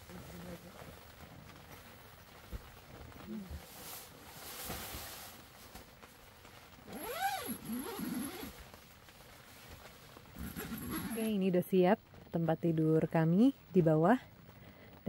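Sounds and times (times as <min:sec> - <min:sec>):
bedding rustling: 0:00.1 - 0:12.3.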